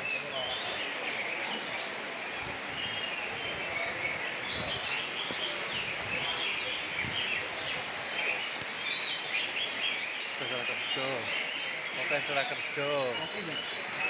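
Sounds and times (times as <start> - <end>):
songbirds singing: 0.0 - 14.0
steady background noise: 0.0 - 14.0.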